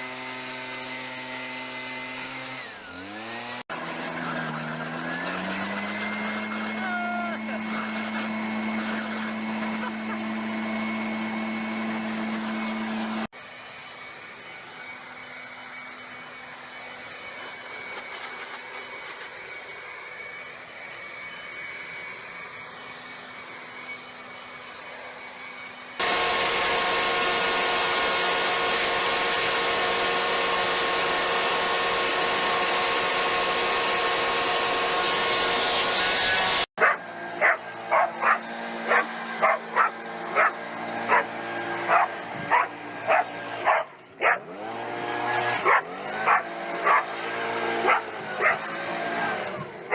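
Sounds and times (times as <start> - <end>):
leaf blowers running: 0.0 - 49.9.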